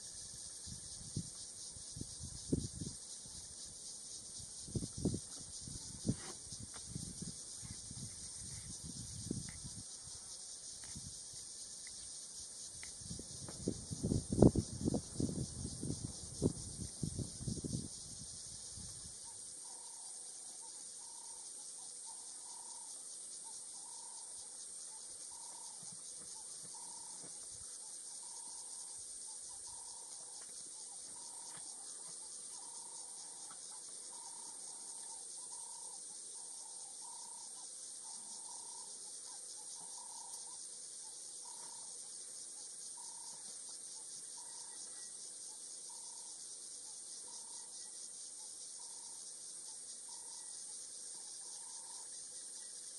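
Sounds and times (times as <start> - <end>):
insect chorus buzzing: 0.0 - 52.9.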